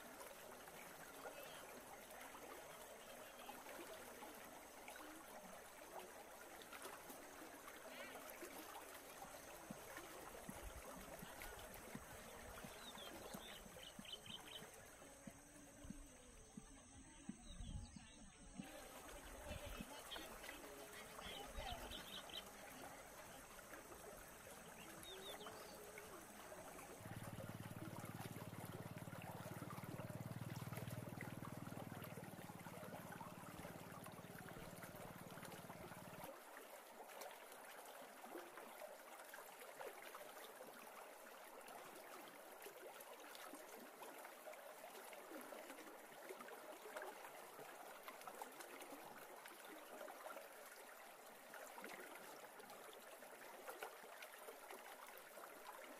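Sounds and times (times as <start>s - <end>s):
shallow river trickling over gravel: 0.0s - 55.9s.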